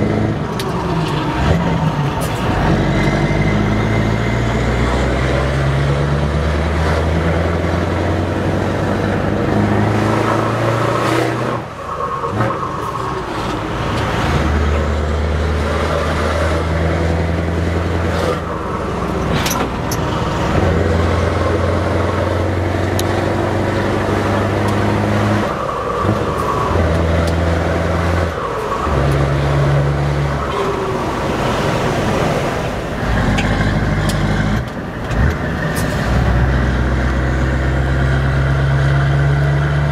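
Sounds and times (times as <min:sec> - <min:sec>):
diesel truck engine shifting gears: 0:00.0 - 0:39.9.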